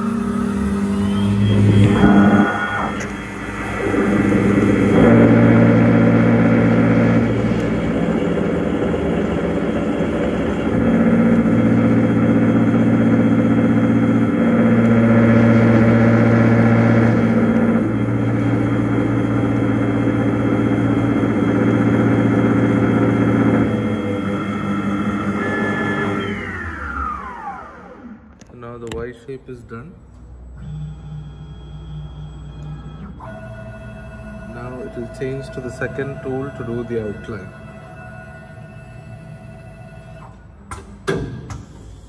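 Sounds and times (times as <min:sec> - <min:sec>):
milling machine spindle hum: 0:00.0 - 0:28.5, 0:30.1 - 0:40.7.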